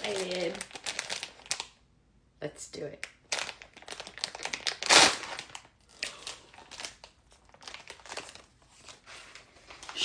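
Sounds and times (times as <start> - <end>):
packaging crinkling: 0.0 - 1.8, 3.0 - 10.0
packaging ripping: 0.0 - 1.8, 3.2 - 9.9.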